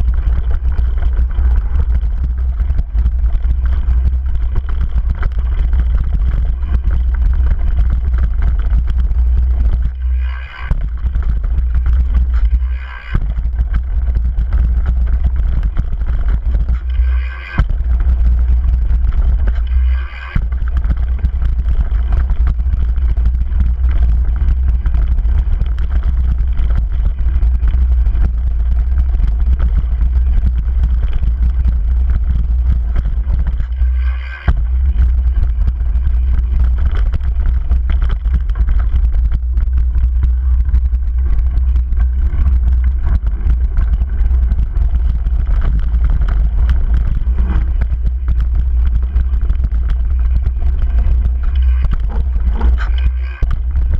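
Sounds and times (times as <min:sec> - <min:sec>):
bike rattling: 0:00.0 - 0:53.9
bike tyres on gravel: 0:00.0 - 0:53.9.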